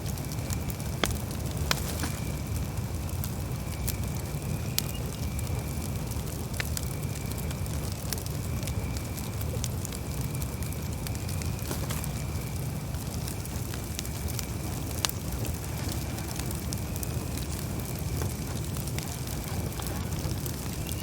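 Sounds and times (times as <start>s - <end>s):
campfire flames rushing: 0.0s - 21.0s
wood popping and crackling: 0.0s - 21.0s.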